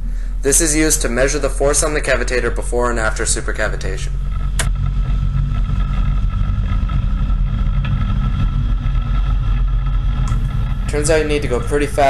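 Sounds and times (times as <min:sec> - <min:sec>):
motorboat engine drone: 0:00.0 - 0:12.0.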